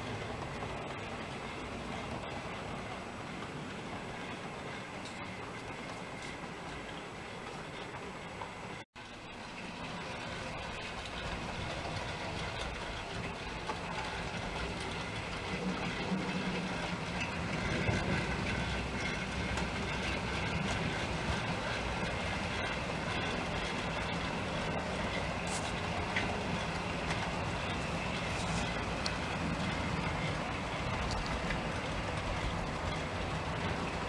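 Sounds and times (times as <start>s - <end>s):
model train motors humming: 0.0s - 34.0s
wheels clicking over rail joints: 0.0s - 34.0s.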